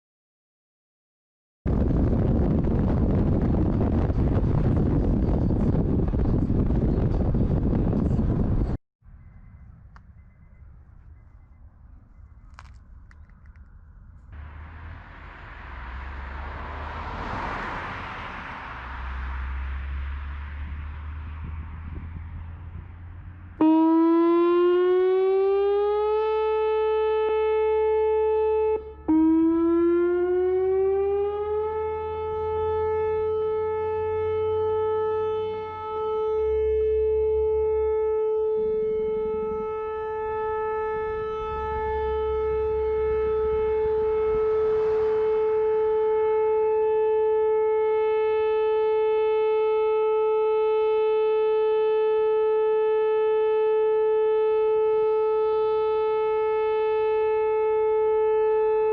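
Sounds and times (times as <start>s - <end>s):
tornado warning siren wailing: 9.2s - 58.9s.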